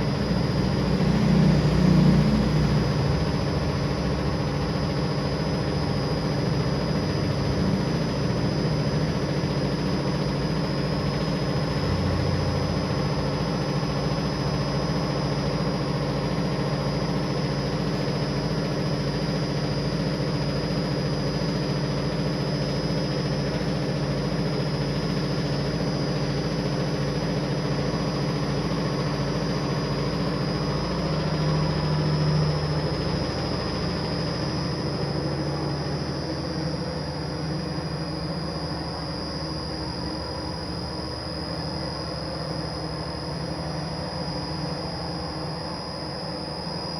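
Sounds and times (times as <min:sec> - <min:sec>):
faint high whine: 0:00.0 - 0:46.9
machine hum: 0:00.0 - 0:46.9.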